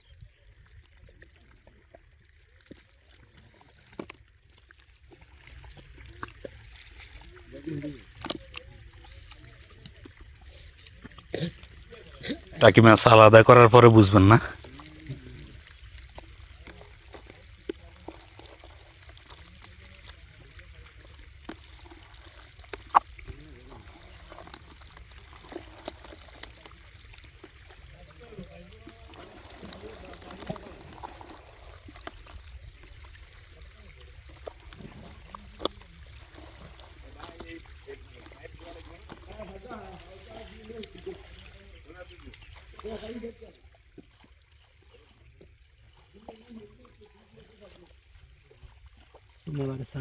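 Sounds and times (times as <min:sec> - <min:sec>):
water trickling and splashing: 0:00.0 - 0:50.0.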